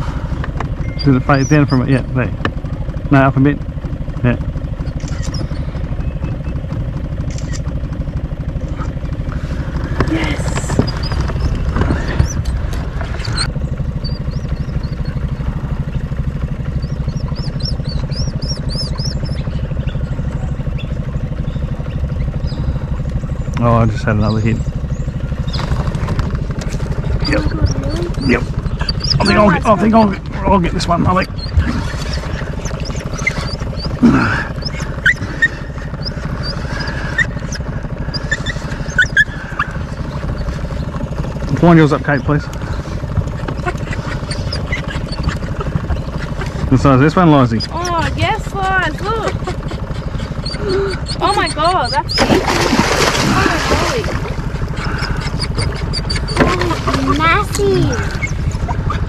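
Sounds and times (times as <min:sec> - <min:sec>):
birds chirping: 0:00.0 - 0:59.0
outboard motor running: 0:00.0 - 0:59.0
steady low rumble: 0:00.0 - 0:59.0.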